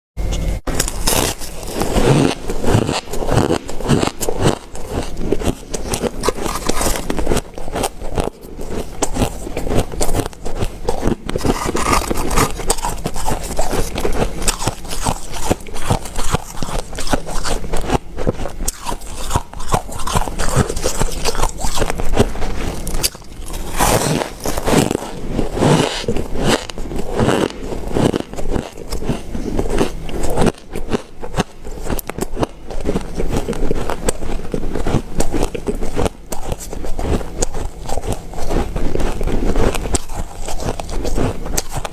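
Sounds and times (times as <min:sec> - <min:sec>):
ice being chewed and crunched: 0:00.7 - 0:41.9.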